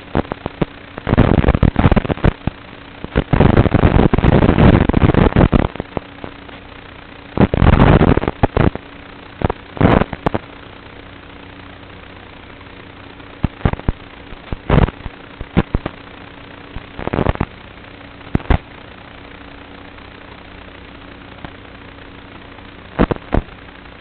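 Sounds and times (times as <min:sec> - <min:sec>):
drone motors humming: 0:00.0 - 0:24.0
harsh bursts of noise: 0:00.0 - 0:24.0.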